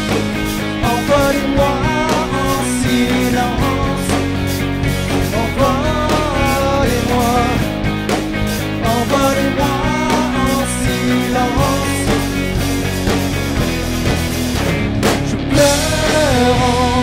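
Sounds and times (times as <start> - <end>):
man singing lead: 0.0 - 8.0, 8.6 - 12.6, 15.1 - 17.0
bass guitar: 0.0 - 17.0
distorted electric guitar: 0.0 - 17.0
drum kit: 0.0 - 17.0.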